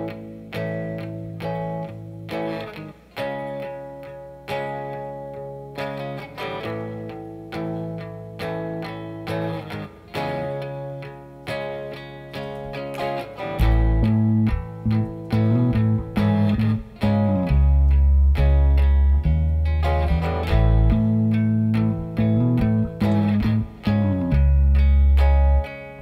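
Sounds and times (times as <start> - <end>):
bass guitar line: 0.0 - 26.0
electric guitar chords: 0.0 - 26.0.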